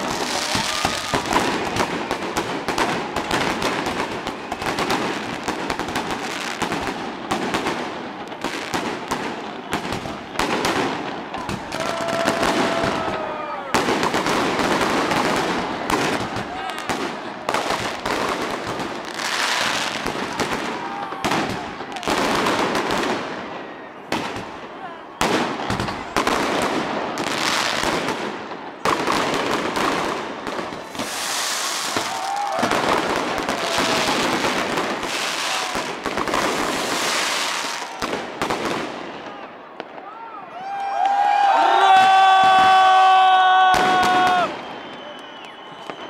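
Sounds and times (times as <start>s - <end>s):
fireworks bursting with bangs and crackle: 0.0s - 40.1s, 41.0s - 46.0s.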